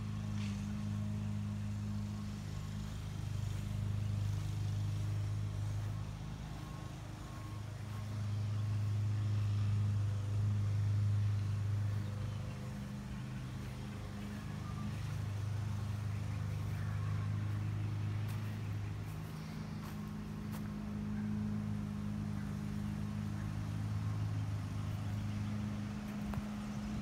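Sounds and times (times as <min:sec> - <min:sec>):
motor droning hum: 0:00.0 - 0:27.0.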